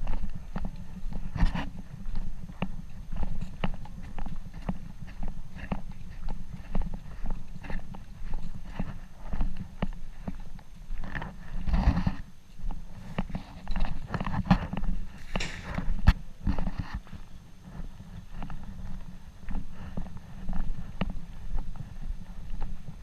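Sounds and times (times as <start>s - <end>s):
constant low rumble: 0.0s - 23.0s
footsteps walking: 0.0s - 23.0s.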